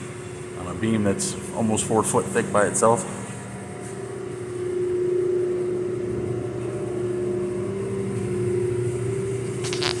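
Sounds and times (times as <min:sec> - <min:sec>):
machine motor humming: 0:00.0 - 0:10.0.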